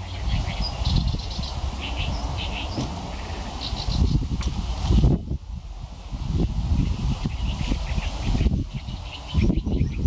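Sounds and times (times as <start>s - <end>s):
birds chirping: 0.0s - 5.1s, 6.4s - 10.0s
gusty wind buffeting microphone: 0.0s - 10.0s.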